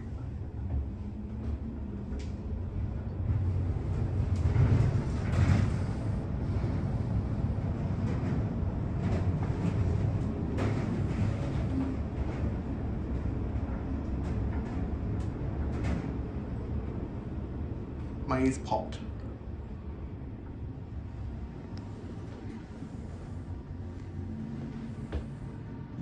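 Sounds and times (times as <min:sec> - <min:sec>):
lift rumble with air noise: 0:00.0 - 0:26.0.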